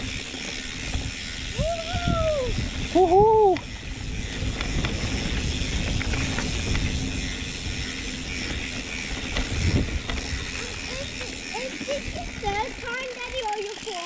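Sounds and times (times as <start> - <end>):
bike mechanism ticking: 0.0 - 14.0
bike tyres rumbling on dirt: 0.0 - 14.0.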